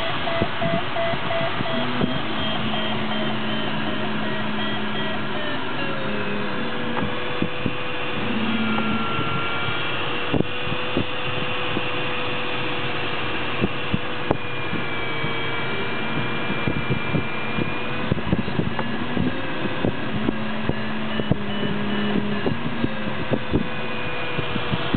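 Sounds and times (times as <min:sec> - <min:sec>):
airflow rushing around canopy: 0:00.0 - 0:24.9
faint steady tone: 0:00.0 - 0:24.9.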